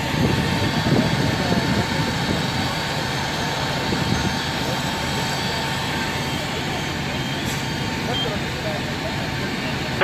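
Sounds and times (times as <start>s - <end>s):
faint voices: 0.0s - 10.0s
fire engine pump drone: 0.0s - 10.0s.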